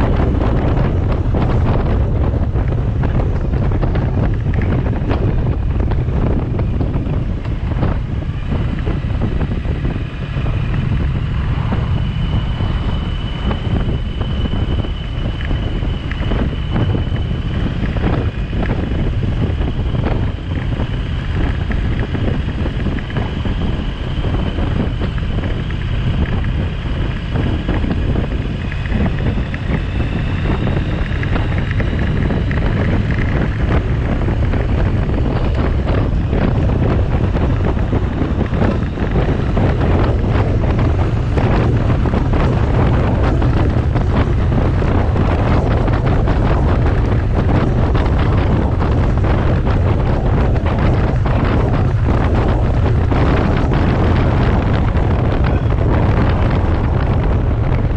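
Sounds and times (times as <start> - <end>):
motorcycle engine cruising: 0.0 - 57.9
wind buffeting microphone: 0.0 - 57.9.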